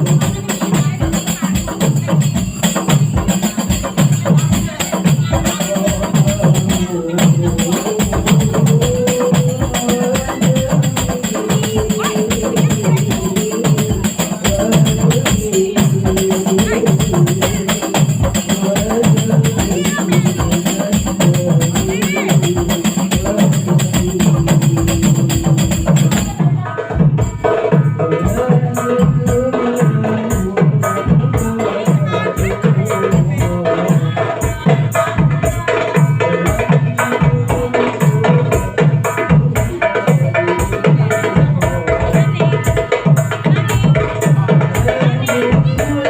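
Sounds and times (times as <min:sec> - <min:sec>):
frame drums with jingles: 0:00.0 - 0:46.0.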